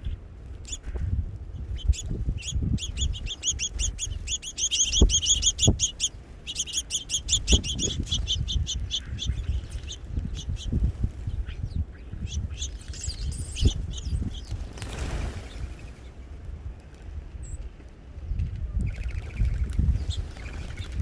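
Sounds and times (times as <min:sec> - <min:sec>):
small birds chirping: 0:00.0 - 0:16.5, 0:17.4 - 0:21.0.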